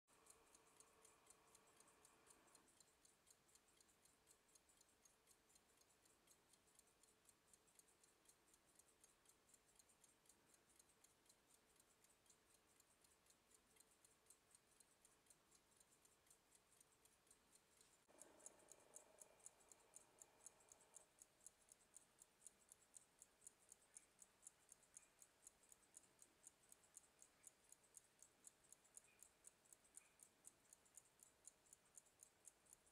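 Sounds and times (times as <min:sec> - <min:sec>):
pocket watch ticking: 0:00.1 - 0:32.9.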